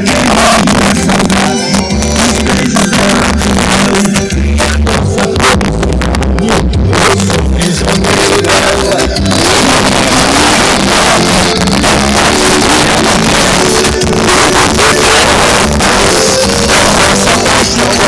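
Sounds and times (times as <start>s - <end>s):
country song from car speakers: 0.0s - 18.0s.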